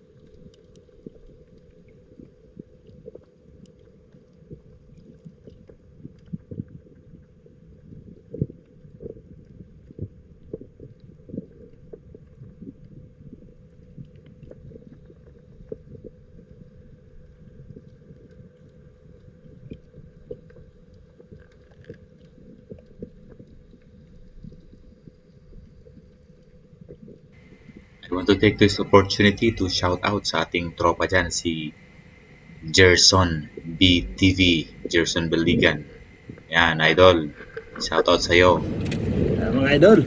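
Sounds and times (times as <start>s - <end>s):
underwater rumble of moving water: 0.0s - 40.0s.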